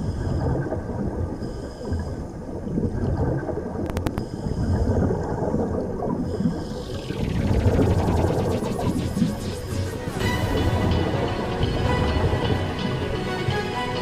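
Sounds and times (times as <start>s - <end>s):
underwater rumble with gurgling: 0.0s - 11.2s.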